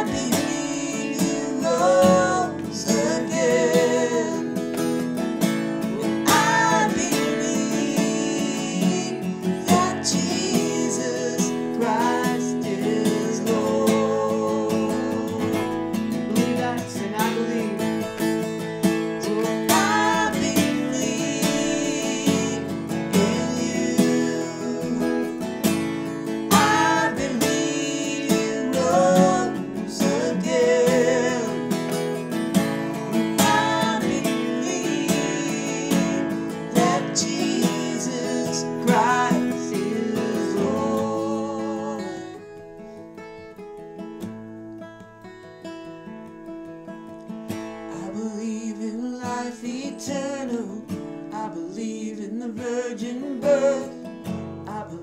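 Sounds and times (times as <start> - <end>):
person singing: 0.0 - 5.0, 5.8 - 42.5, 47.9 - 55.0
acoustic guitar strumming: 0.0 - 55.0.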